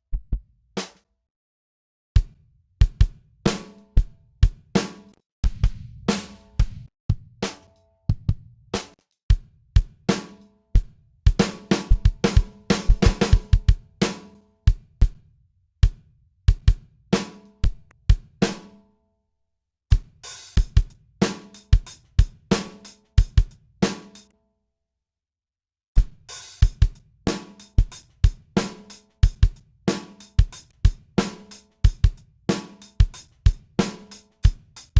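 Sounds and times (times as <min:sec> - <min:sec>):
drum kit groove: 0:02.2 - 0:15.2, 0:15.8 - 0:18.7, 0:19.9 - 0:24.3, 0:26.0 - 0:34.9.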